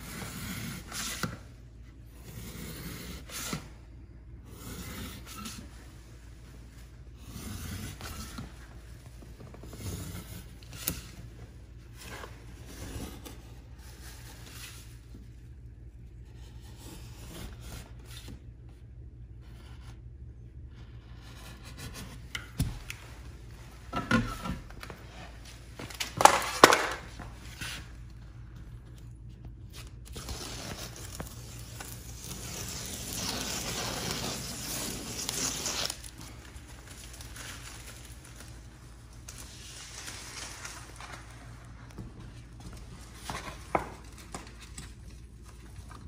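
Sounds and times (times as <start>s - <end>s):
wallpaper scraping and rustling: 0.0s - 18.5s, 20.7s - 46.0s.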